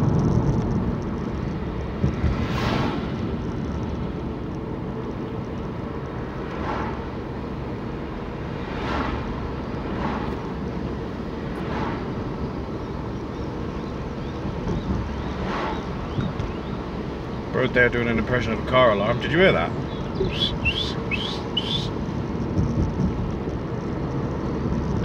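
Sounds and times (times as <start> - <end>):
car cabin road noise: 0.0 - 25.0
oncoming cars passing: 0.0 - 25.0.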